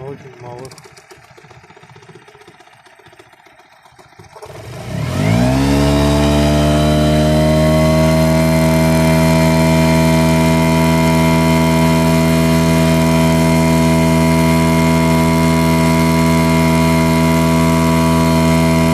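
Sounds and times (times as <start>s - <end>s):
outboard motor running: 0.0s - 18.9s.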